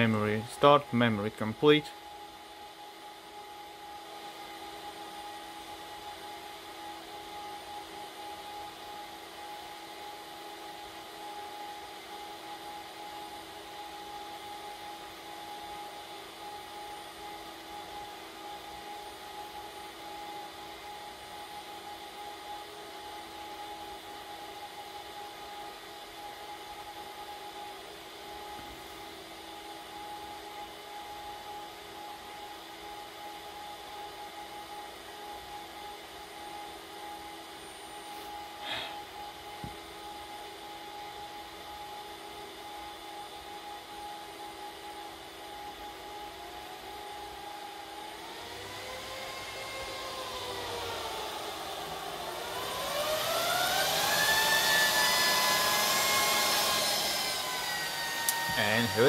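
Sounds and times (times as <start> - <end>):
server cooling fans whirring: 0.0 - 59.0.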